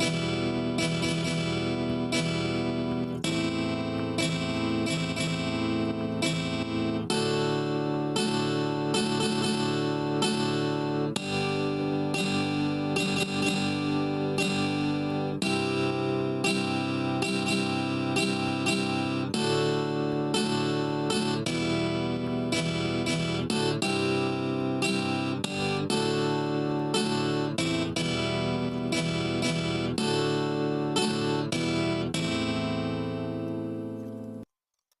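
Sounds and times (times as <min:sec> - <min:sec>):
strummed acoustic guitar music: 0:00.0 - 0:34.4.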